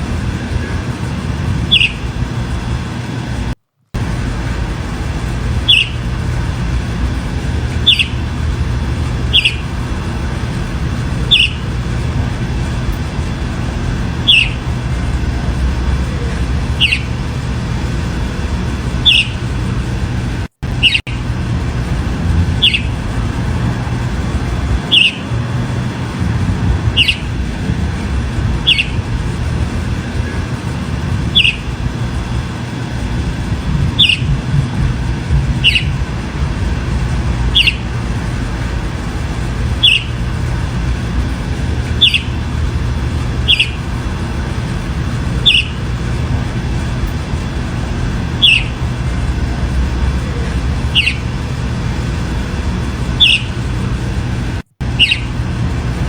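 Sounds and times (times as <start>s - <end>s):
low rumble: 0.0s - 56.0s
mockingbird falling call: 1.7s - 2.2s, 5.6s - 19.9s, 22.4s - 26.2s, 26.8s - 52.1s, 53.0s - 53.7s, 54.8s - 55.5s.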